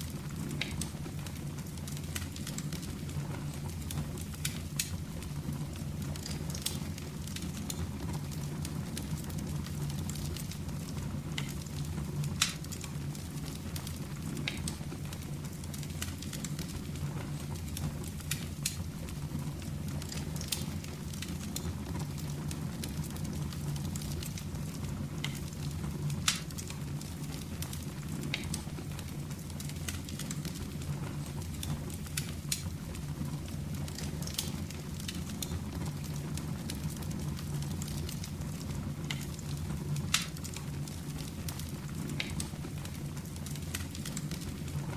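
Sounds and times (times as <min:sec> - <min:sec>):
fire crackling and popping: 0:00.0 - 0:44.9
fire flame noise: 0:00.0 - 0:44.9.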